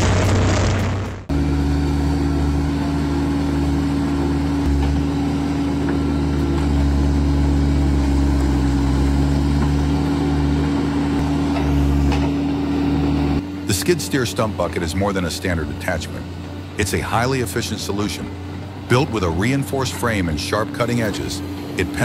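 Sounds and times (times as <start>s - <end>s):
diesel engine running under load: 0.0s - 22.0s
wood shredder grinding wood: 0.0s - 22.0s.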